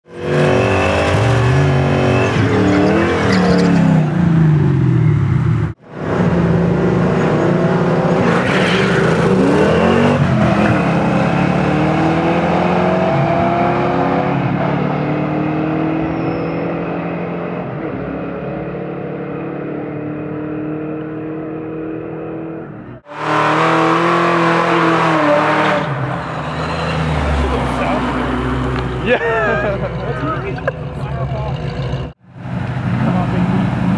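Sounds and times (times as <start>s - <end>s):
muscle car engines revving: 0.1s - 33.9s.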